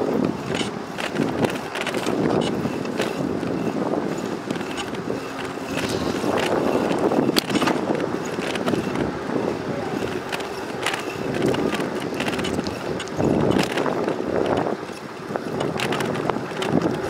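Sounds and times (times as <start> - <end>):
bicycle clicks and rattles: 0.0 - 17.0
tyres rumbling on pavement: 0.0 - 17.0
wind noise on microphone: 0.0 - 17.0.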